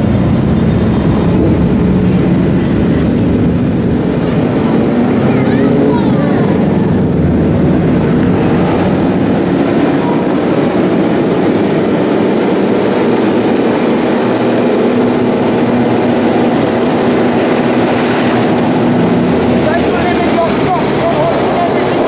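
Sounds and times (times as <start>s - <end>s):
motorcycle engine running: 0.0s - 22.0s
road noise: 0.0s - 22.0s
wind noise: 0.0s - 22.0s.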